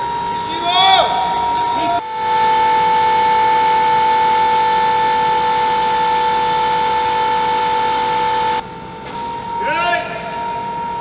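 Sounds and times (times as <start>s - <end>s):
high-pitched machine whine: 0.0s - 11.0s.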